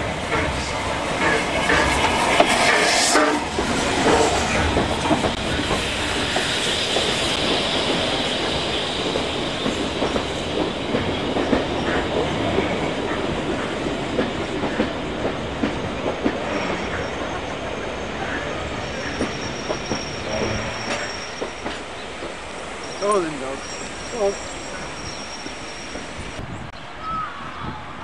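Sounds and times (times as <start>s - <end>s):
wheels clattering over rail joints: 0.0s - 26.4s
train rumble: 0.0s - 26.8s.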